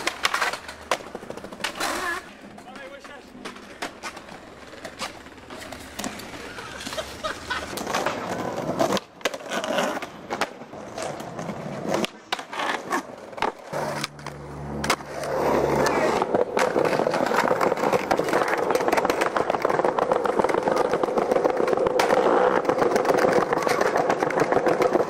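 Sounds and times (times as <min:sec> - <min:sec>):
skateboard pops and clacks: 0:00.0 - 0:25.0
skateboard wheels rolling on pavement: 0:00.0 - 0:25.0.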